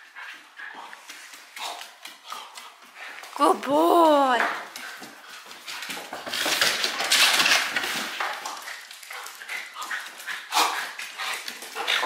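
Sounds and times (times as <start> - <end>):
dog claws skittering on wood floor: 0.2 - 3.4, 4.4 - 12.0.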